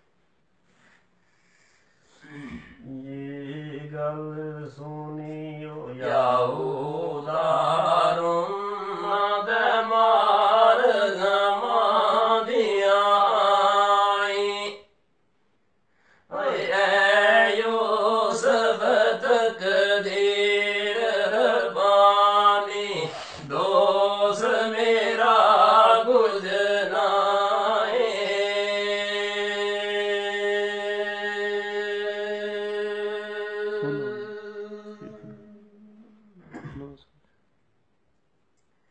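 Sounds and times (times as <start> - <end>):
men singing devotional chant: 2.2 - 14.8, 16.3 - 35.8.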